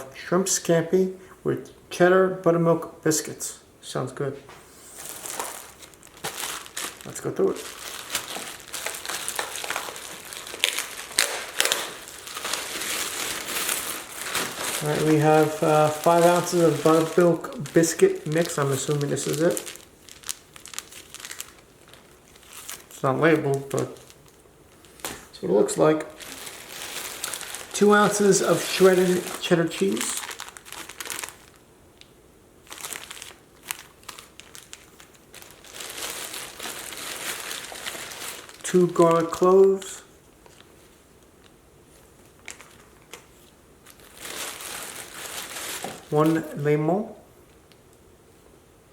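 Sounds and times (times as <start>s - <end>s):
packaging crinkling and rustling: 4.8s - 46.7s.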